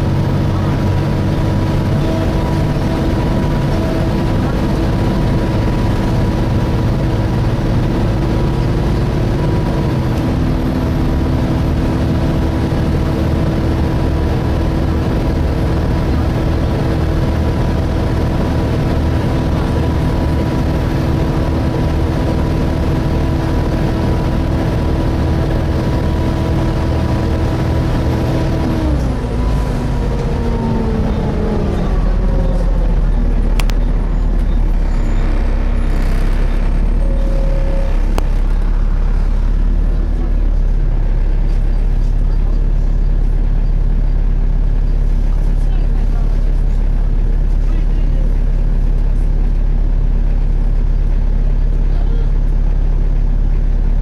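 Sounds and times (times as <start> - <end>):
bus cooling fan whine: 0.0 - 54.0
engine and road rumble: 0.0 - 54.0.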